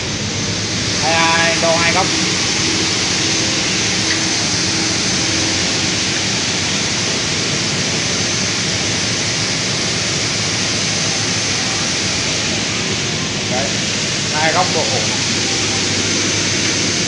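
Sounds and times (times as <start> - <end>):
faint hum: 0.0 - 17.0
workshop machinery hiss: 0.0 - 17.0.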